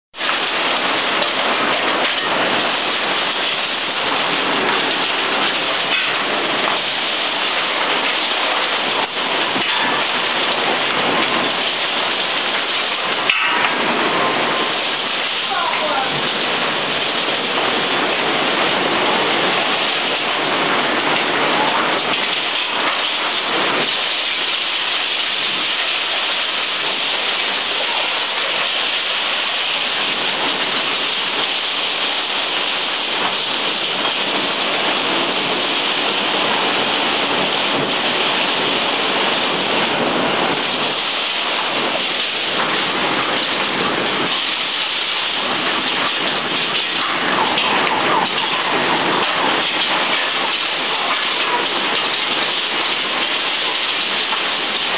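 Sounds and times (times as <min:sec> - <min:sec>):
torrential rain: 0:00.1 - 0:54.9.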